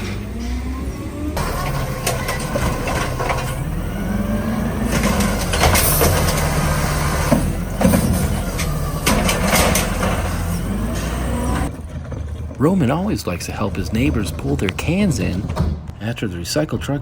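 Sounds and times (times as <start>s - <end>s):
metallic clanks: 0.0s - 16.0s
diesel engine revving: 0.0s - 17.0s.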